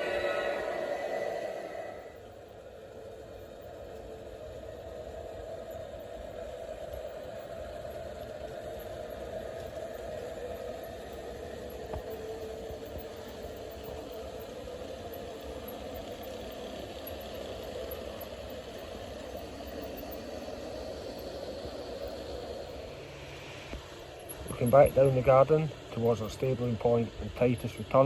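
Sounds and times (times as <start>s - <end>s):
model train humming on track: 0.0s - 28.0s.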